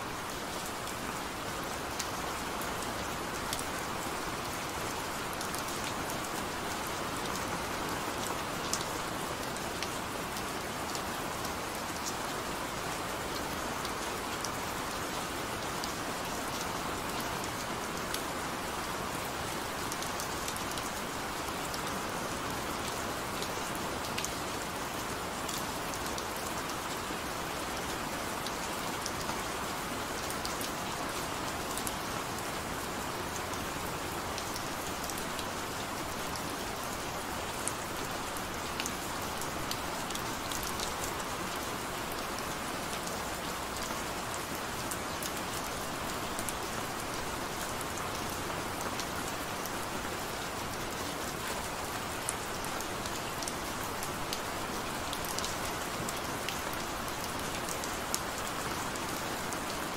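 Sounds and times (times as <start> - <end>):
gentle rain hissing: 0.0 - 59.9.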